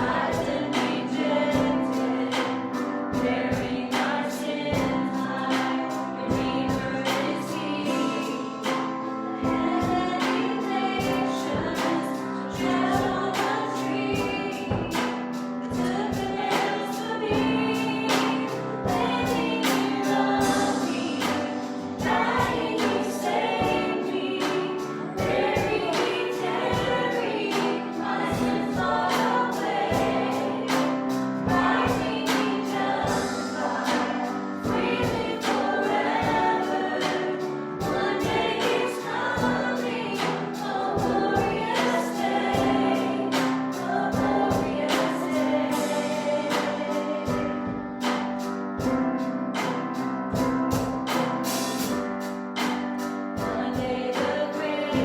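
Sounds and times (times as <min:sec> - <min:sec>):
steady drum beat: 0:00.0 - 0:55.0
sustained keyboard chords: 0:00.0 - 0:55.0
voices singing together: 0:00.0 - 0:55.0.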